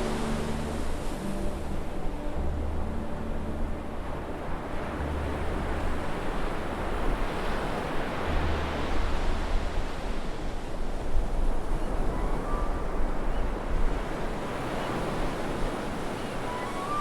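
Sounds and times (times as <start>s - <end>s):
ocean surf: 0.0s - 17.0s.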